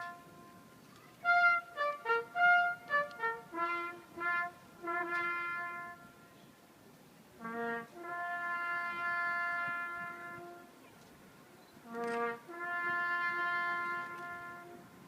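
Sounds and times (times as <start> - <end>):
solo brass instrument: 0.0 - 6.6, 7.4 - 10.9, 11.8 - 15.0.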